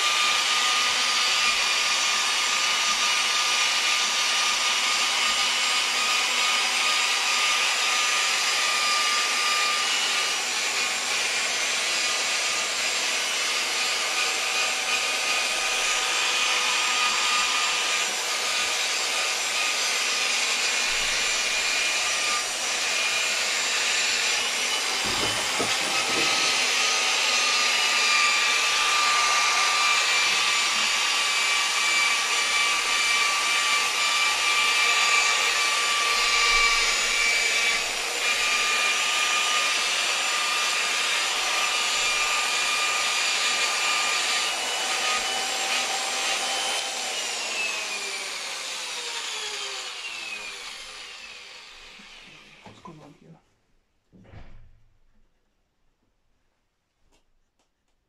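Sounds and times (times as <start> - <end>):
electric polisher motor whine: 0.0 - 52.8.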